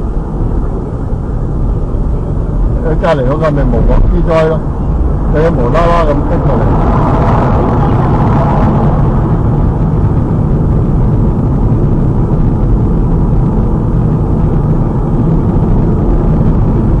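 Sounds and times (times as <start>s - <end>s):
car driving at highway speed: 0.0s - 17.0s.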